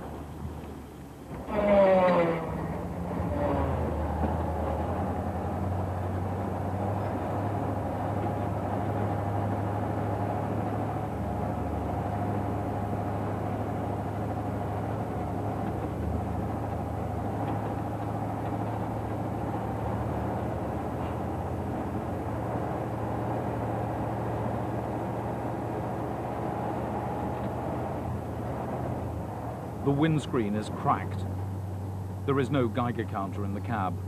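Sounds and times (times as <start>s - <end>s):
truck engine low drone: 0.0s - 34.0s.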